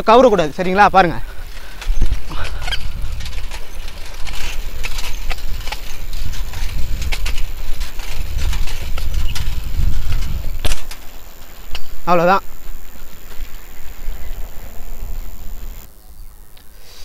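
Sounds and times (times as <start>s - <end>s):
bicycle clicks and rattles: 0.0s - 15.9s
wind on microphone: 1.2s - 15.9s.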